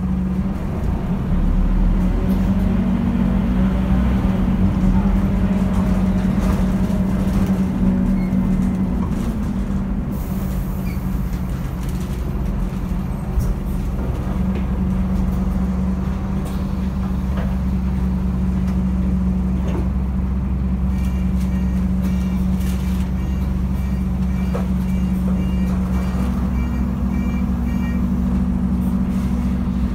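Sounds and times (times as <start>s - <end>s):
bus diesel engine humming: 0.0s - 29.9s.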